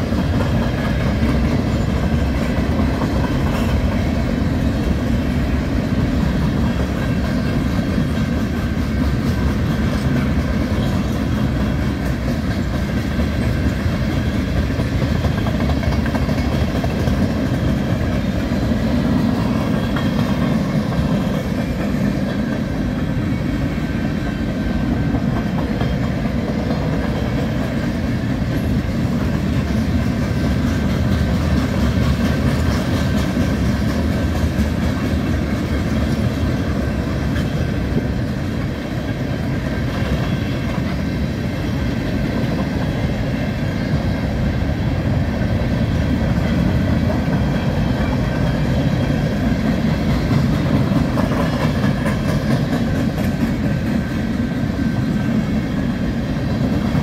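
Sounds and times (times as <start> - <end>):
steel wheels rolling on rails: 0.0 - 57.0.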